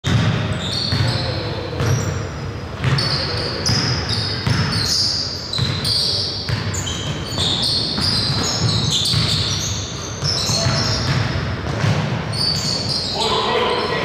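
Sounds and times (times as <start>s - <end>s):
basketballs bouncing on gym floor: 0.0s - 13.1s
sneaker squeaks: 0.1s - 14.0s.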